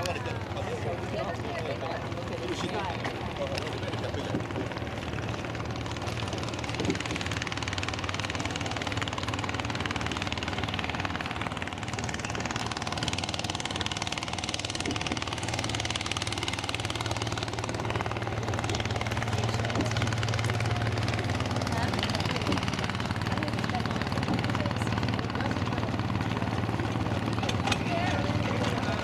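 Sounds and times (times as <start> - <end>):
motorboat engine idling: 0.0 - 29.0.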